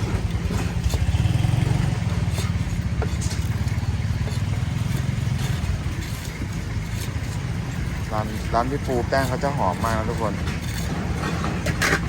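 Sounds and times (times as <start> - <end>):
small engine rumbling: 0.0 - 12.0.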